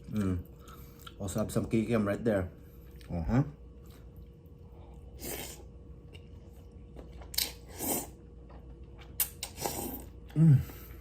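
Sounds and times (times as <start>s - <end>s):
person chewing noodles: 0.0s - 1.2s, 2.8s - 11.0s.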